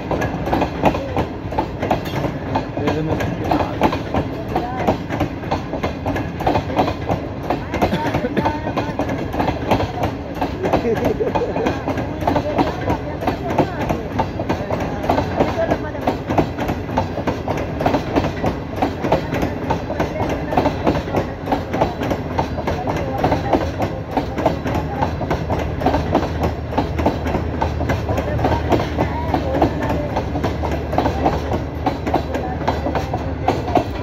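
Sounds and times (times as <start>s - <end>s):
train wheels clattering over rail joints: 0.0s - 34.0s.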